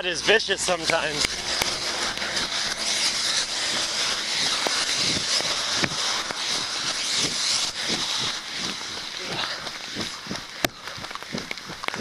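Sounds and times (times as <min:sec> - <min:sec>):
running footsteps: 0:00.8 - 0:12.0.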